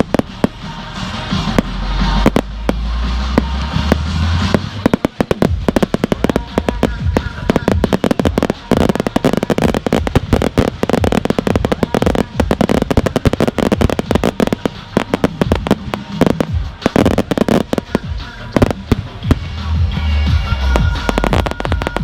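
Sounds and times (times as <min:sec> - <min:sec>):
fireworks barrage bangs and crackling: 0:00.0 - 0:22.0.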